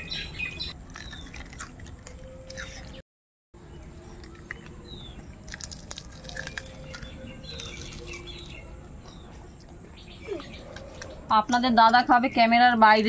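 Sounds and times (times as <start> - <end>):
small birds chirping: 0.0 - 3.0, 3.6 - 13.0.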